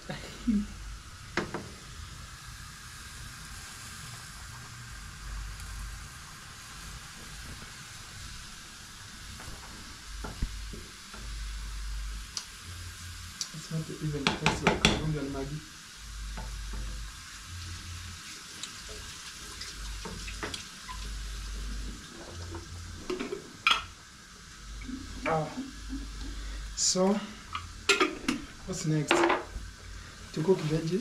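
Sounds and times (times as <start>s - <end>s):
onions sizzling in a pot: 0.0s - 31.0s.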